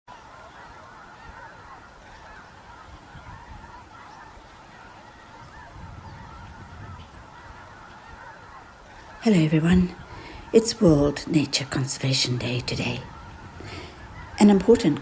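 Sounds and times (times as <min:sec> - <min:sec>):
geese honking: 0:00.1 - 0:15.0.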